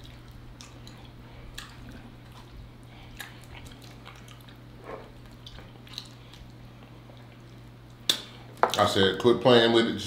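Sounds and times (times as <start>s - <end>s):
wet chewing: 0.0s - 8.3s
lip smacks: 0.0s - 8.5s
steady low hum: 0.0s - 10.0s.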